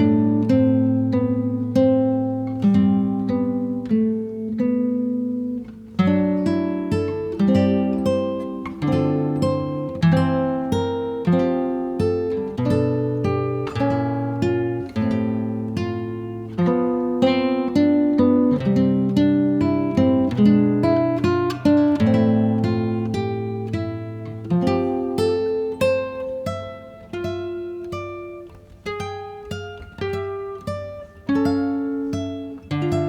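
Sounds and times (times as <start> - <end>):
acoustic guitar music: 0.0 - 33.0.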